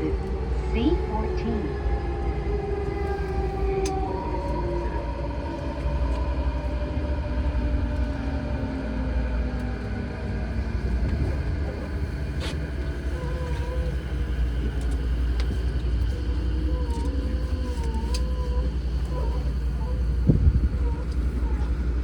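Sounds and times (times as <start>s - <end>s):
train rumbling in tunnel: 0.0s - 22.0s.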